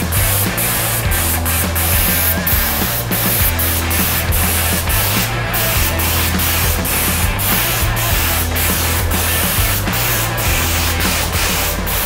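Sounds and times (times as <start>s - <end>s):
spray gun hissing: 0.0s - 12.0s.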